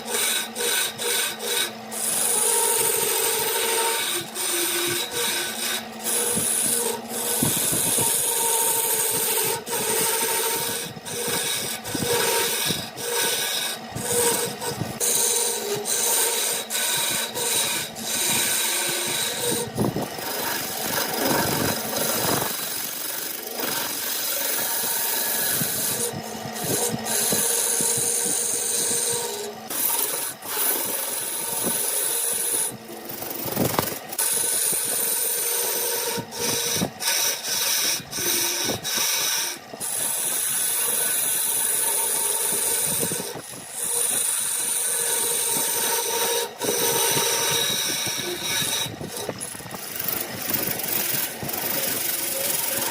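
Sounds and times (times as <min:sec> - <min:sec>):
turning tool scraping wood: 0:00.0 - 0:52.9
wood lathe whine: 0:00.0 - 0:52.9.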